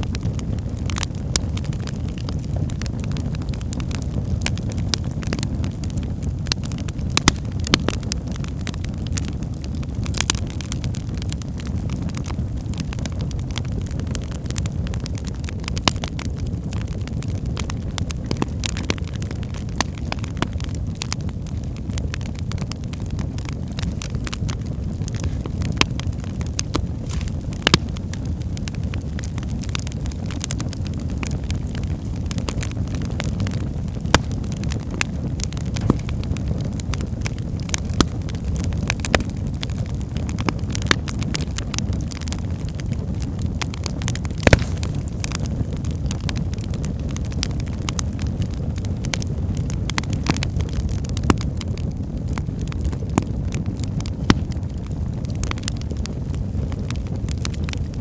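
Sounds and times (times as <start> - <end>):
fire rumbling: 0.0 - 58.0
logs crackling and popping: 0.0 - 58.0.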